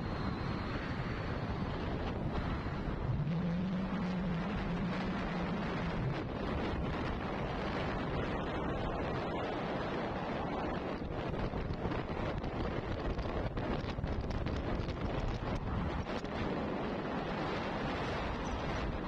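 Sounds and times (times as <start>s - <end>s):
low engine hum: 0.0s - 19.0s
road noise: 0.0s - 19.0s
wind rushing over microphone: 0.0s - 19.0s.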